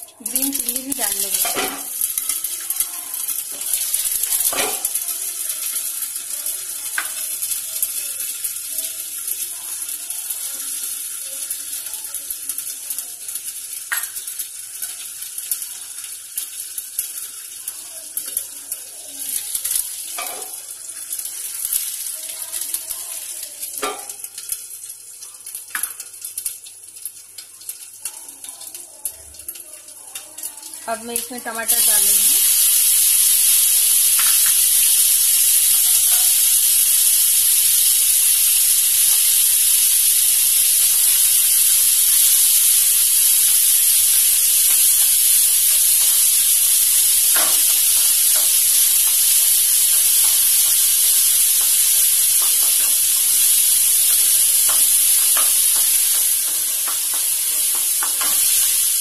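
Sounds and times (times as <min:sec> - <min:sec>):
spices sizzling in hot oil: 0:00.0 - 0:59.0.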